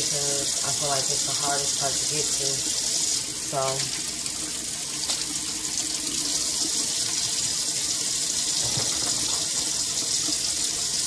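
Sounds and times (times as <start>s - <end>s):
faucet running into metal sink: 0.0s - 11.0s.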